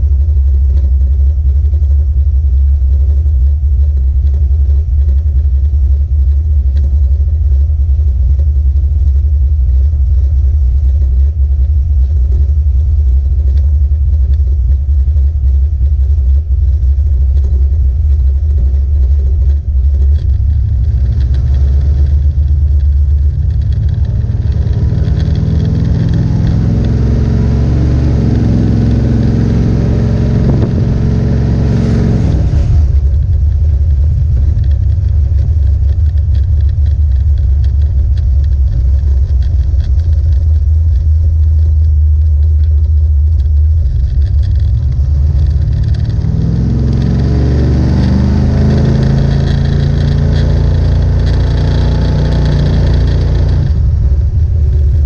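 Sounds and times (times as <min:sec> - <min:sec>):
car engine rumbling and revving: 0:00.0 - 0:55.0.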